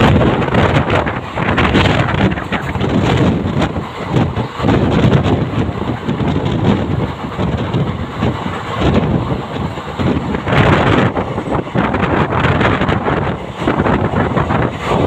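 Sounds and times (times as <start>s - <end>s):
train rumble: 0.0s - 15.0s
wind buffeting microphone: 0.0s - 15.0s.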